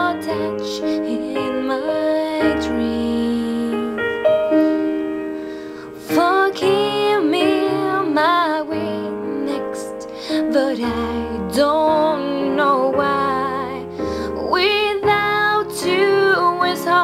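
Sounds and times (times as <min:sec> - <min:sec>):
woman singing a slow ballad: 0:00.0 - 0:05.0, 0:05.8 - 0:17.0
piano chords: 0:00.0 - 0:17.0.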